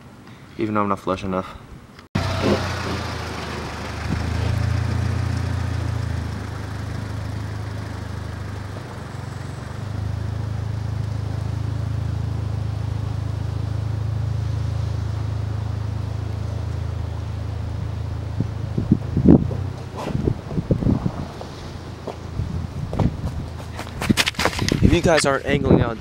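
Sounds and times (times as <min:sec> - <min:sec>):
car engine running at low revs: 0:02.2 - 0:25.0.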